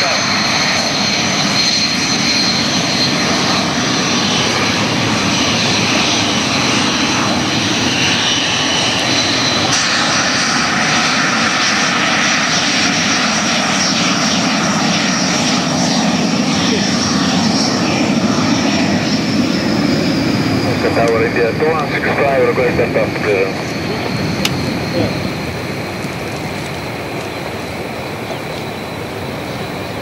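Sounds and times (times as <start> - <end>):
jet engine whine with whistling: 0.0 - 30.0.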